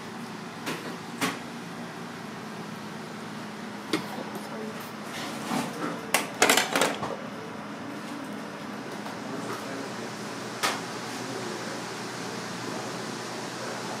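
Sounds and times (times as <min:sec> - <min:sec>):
fan humming: 0:00.0 - 0:14.0.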